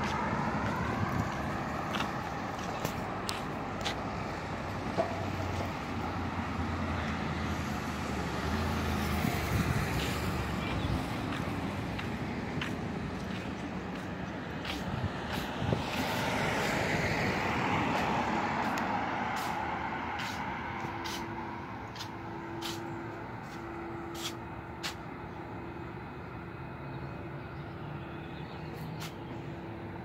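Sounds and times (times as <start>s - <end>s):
motor vehicle passing: 0.0s - 25.0s.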